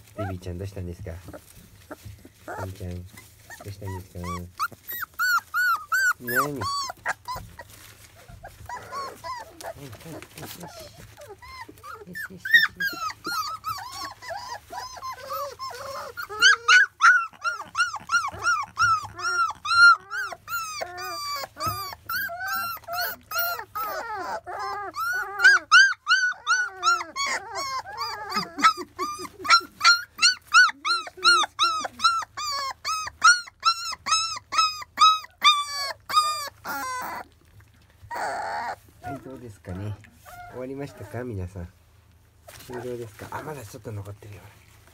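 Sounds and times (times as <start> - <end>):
puppies whimpering and squealing: 0.0 - 44.9.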